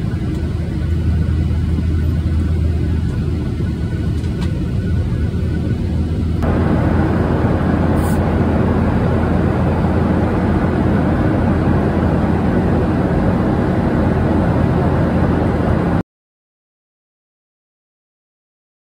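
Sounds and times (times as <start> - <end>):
loud vehicle rumble: 0.0 - 16.0.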